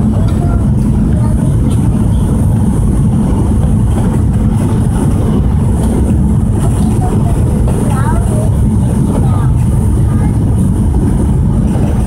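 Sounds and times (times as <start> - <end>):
jet engine and airflow rumble: 0.0 - 12.0.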